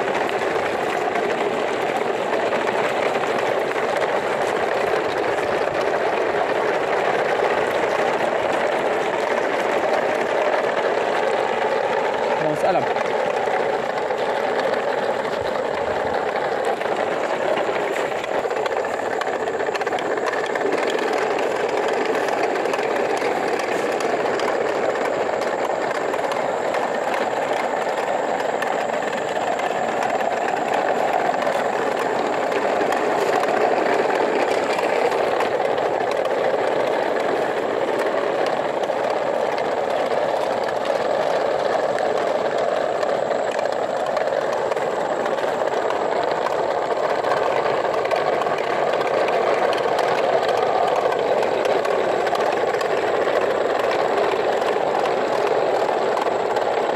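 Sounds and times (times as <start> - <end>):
toy trucks rattling over gravel: 0.0 - 56.9.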